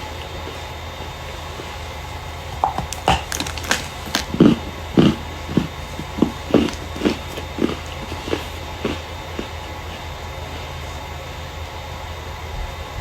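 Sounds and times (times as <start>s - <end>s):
starch crunching: 0.0s - 11.0s
steady low hum: 0.0s - 13.0s.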